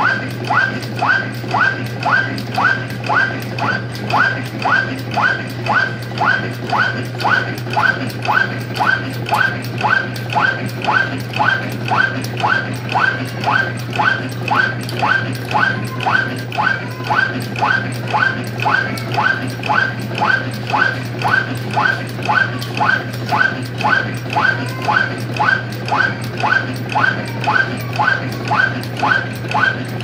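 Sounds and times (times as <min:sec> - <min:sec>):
machine stroke squeaking: 0:00.0 - 0:30.0
steady motor hum: 0:00.0 - 0:30.0.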